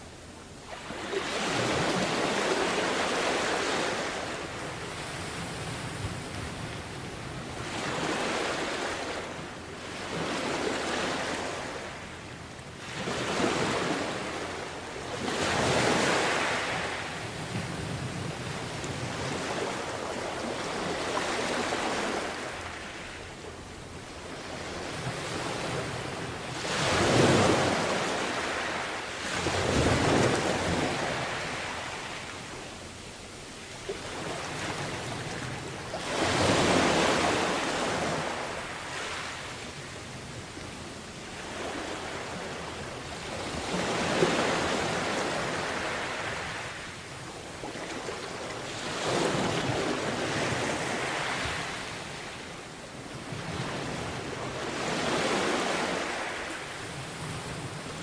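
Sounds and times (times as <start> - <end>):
sea waves breaking: 0.7 - 12.2, 12.8 - 23.2, 24.2 - 32.8, 33.8 - 52.4, 53.2 - 58.0
wind rumbling on microphone: 0.9 - 58.0.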